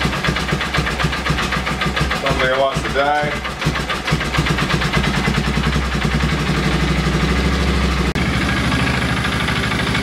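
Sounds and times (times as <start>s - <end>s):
single-cylinder engine running: 0.0s - 10.0s.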